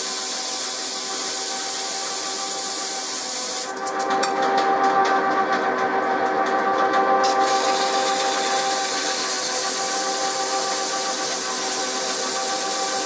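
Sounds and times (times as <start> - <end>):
metal lathe whining: 0.6 - 13.0.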